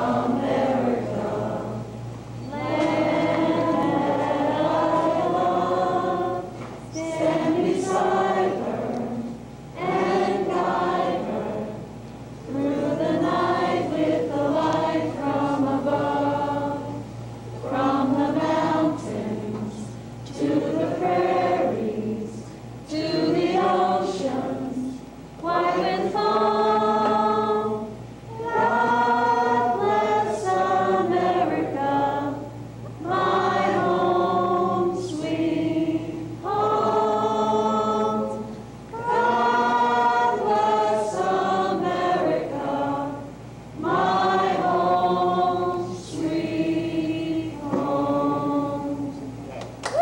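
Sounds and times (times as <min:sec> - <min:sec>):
group of voices singing: 0:00.0 - 0:49.5
steady hum: 0:00.0 - 0:50.0.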